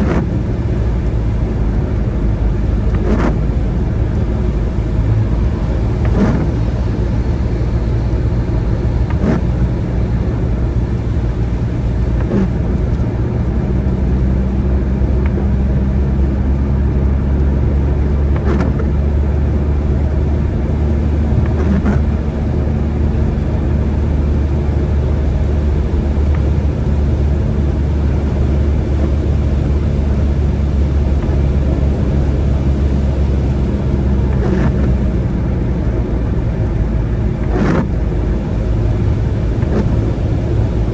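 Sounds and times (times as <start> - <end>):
car engine and road noise: 0.0 - 40.9.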